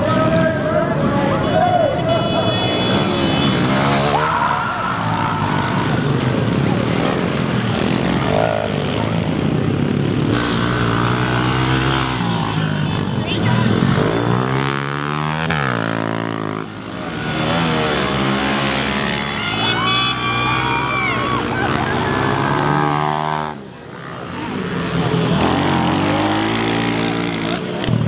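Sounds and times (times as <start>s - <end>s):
pit bike engines revving: 0.0s - 28.0s.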